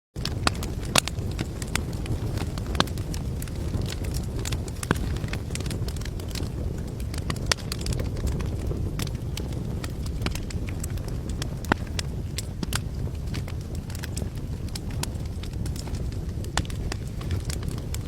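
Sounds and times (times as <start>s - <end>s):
wood fire crackling and popping: 0.2s - 18.0s.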